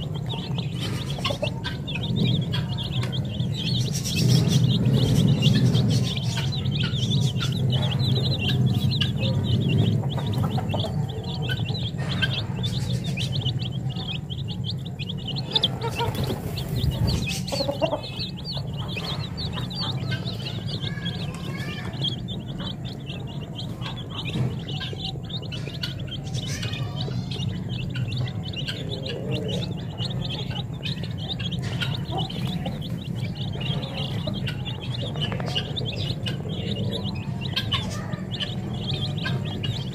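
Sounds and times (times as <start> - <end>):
baby chicks peeping: 0.0 - 39.9
steady low hum: 0.0 - 39.9.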